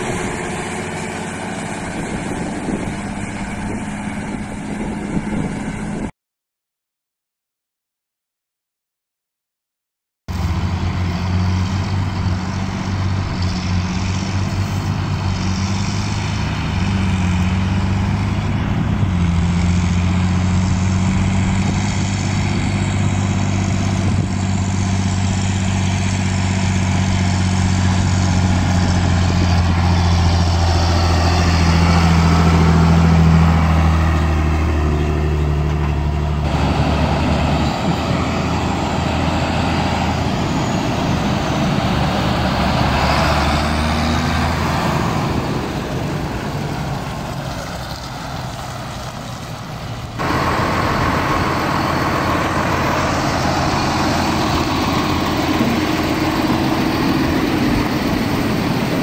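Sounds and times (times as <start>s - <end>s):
diesel tractor engine running: 0.0s - 6.1s, 10.3s - 59.0s.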